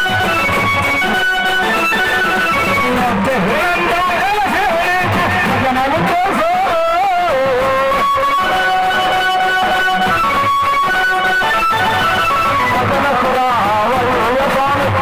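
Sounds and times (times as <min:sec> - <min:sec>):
wavering lead melody: 0:00.0 - 0:05.7, 0:06.6 - 0:14.3
drumbeats: 0:00.0 - 0:15.0.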